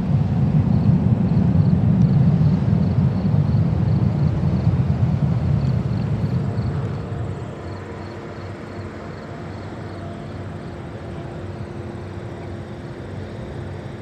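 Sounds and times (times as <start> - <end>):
distant engine drone: 0.0 - 14.0.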